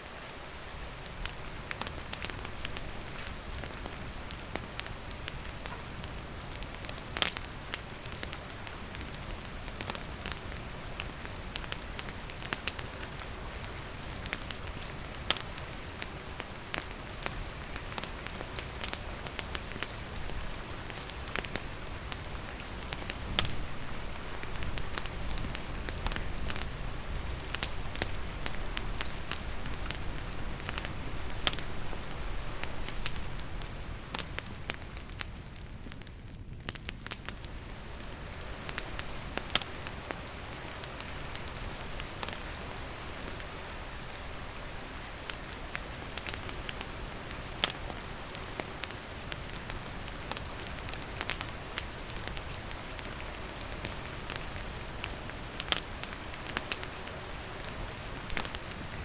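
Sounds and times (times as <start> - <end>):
steady rain falling: 0.0 - 59.0
campfire crackling and popping: 0.5 - 59.0.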